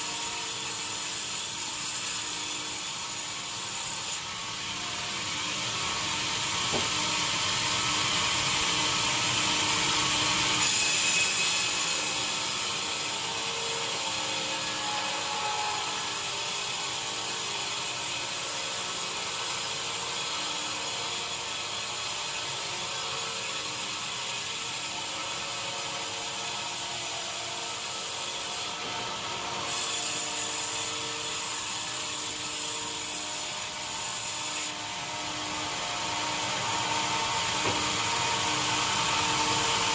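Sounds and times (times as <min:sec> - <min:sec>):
sawmill machinery sawing wood: 0:05.1 - 0:20.4, 0:21.2 - 0:39.9.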